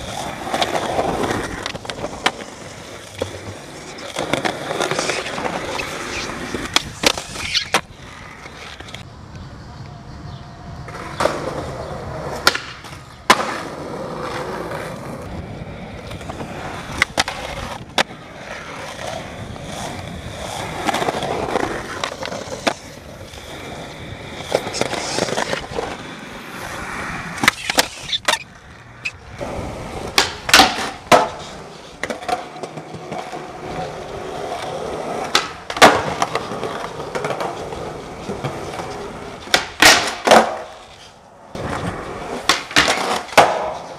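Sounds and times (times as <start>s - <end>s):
skateboard clacking on ground: 0.0s - 10.0s, 10.8s - 15.2s, 15.9s - 43.9s
skateboard wheels rolling on concrete: 0.0s - 43.9s.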